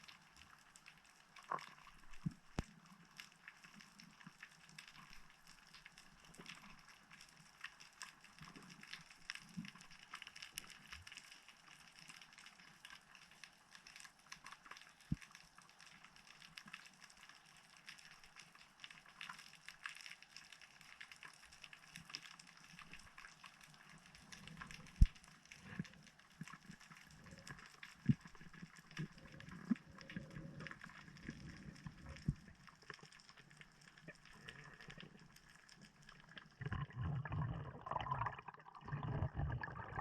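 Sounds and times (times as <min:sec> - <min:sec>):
underwater crackling and clicking: 0:00.0 - 0:40.0.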